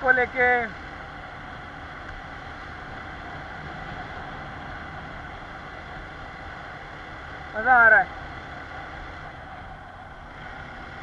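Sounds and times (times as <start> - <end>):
road noise on wet road: 0.0 - 11.0.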